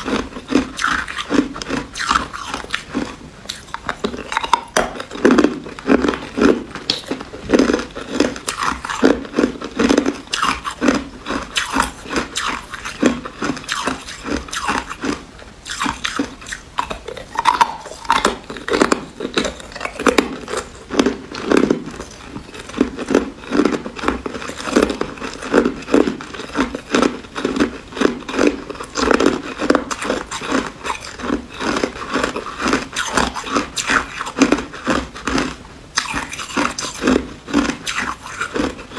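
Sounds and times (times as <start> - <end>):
ice cubes crunched in mouth: 0.0 - 38.9.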